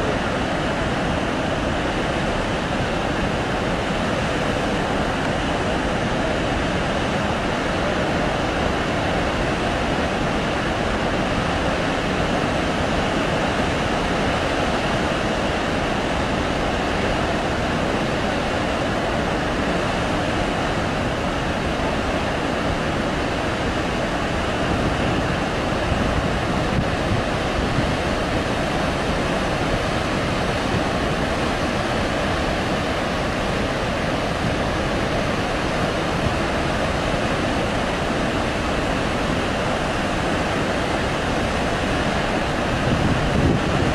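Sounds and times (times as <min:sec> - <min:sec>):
water rushing out of dam: 0:00.0 - 0:43.9.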